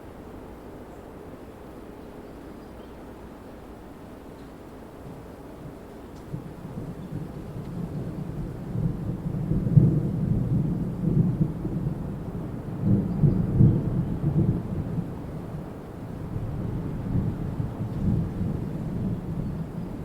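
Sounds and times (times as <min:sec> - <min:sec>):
strong wind gusting through trees: 0:00.0 - 0:20.0.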